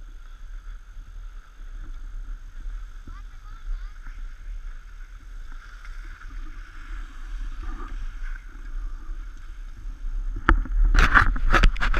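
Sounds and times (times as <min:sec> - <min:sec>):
skis scraping over snow: 0:00.0 - 0:11.9
wind rumbling on microphone: 0:00.0 - 0:11.9.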